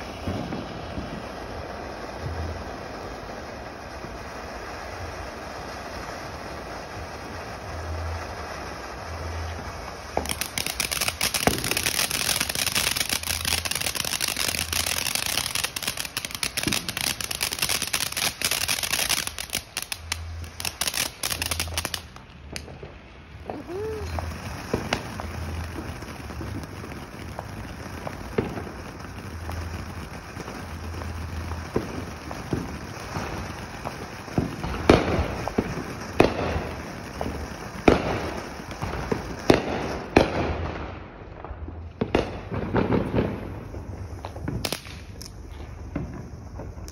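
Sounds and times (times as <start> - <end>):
firework fountain crackling: 0.0 - 46.9
firework pops and bangs: 0.0 - 46.9.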